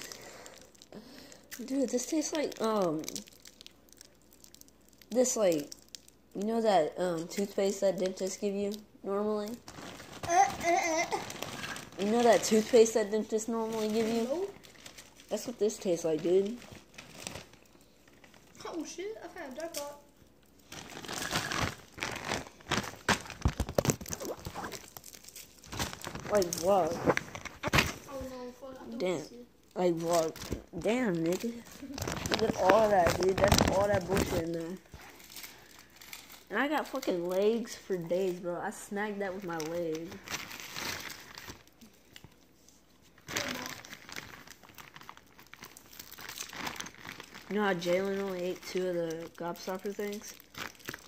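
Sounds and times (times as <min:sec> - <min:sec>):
wrappers rustling and crinkling: 0:00.0 - 0:51.0.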